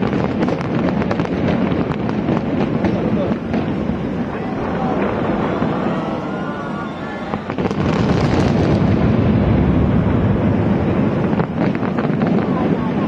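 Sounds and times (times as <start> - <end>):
fireworks crackling and bursting: 0.0 - 13.0.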